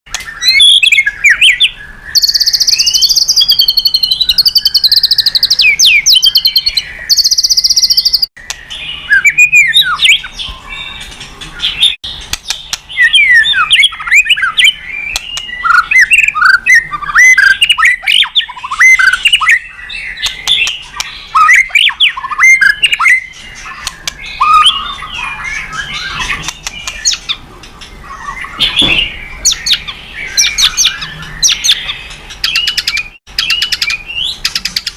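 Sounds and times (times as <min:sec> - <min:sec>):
songbird singing: 0:00.1 - 0:34.9.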